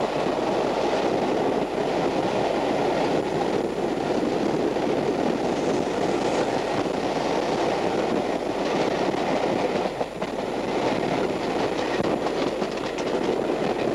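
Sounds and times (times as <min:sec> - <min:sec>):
train wheels rumbling on rail: 0:00.0 - 0:13.9.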